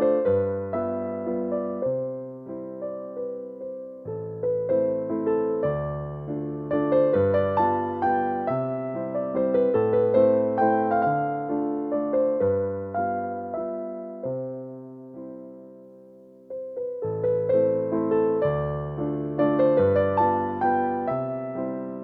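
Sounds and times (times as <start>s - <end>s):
soft electric piano chords: 0.0s - 22.0s.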